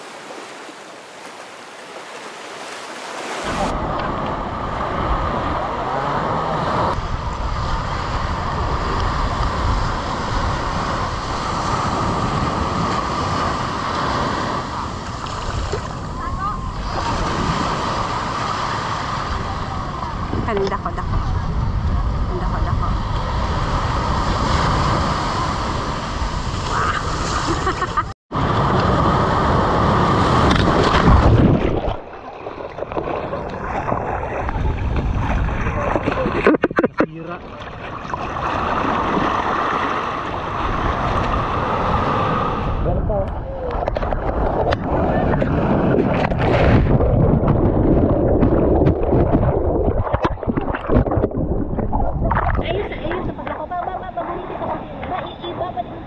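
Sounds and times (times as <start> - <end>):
sea water rushing: 0.0 - 56.0
surf washing onto beach: 0.0 - 56.0
wind buffeting microphone: 6.9 - 27.0, 28.4 - 32.1, 33.1 - 37.3, 38.1 - 56.0.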